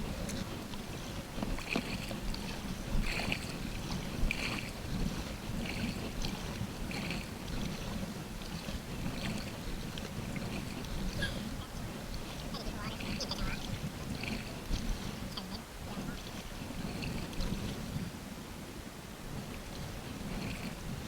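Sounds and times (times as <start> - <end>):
kayak paddle splashing: 0.0 - 18.4, 19.2 - 21.0
water against hull: 0.0 - 21.0.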